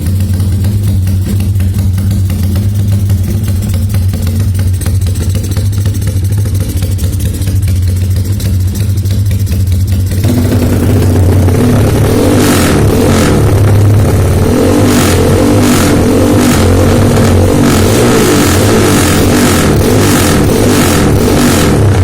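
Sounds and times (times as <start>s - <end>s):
motorcycle revving: 0.0s - 22.0s.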